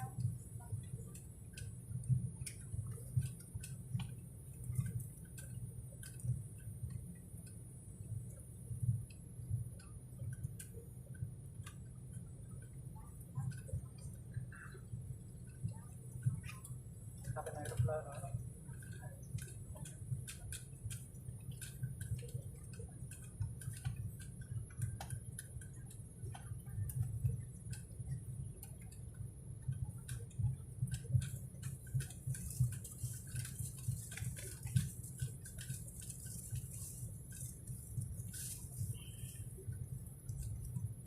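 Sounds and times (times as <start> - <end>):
small ticks and clicks: 0.0 - 41.0.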